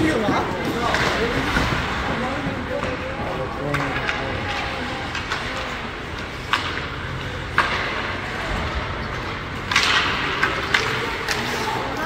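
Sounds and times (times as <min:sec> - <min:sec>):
hockey sticks clacking on puck: 0:00.0 - 0:12.0.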